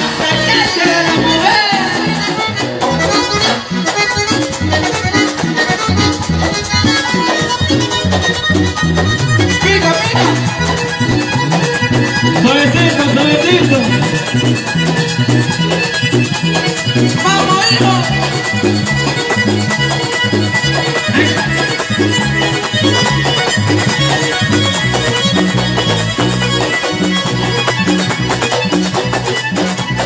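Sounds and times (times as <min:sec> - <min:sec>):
button accordion: 0:00.0 - 0:30.0
live band music: 0:00.0 - 0:30.0.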